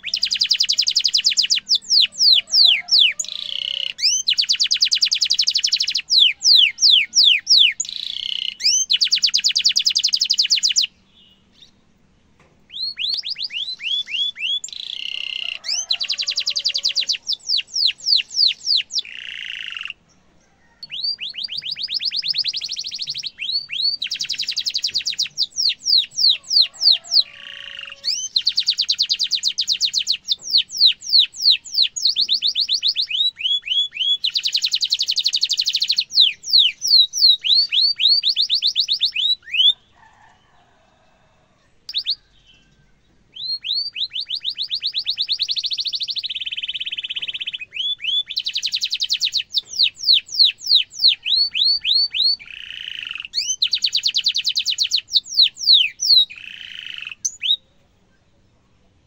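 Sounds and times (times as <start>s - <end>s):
canary singing trills: 0.0s - 12.0s, 12.6s - 40.1s, 41.9s - 58.4s.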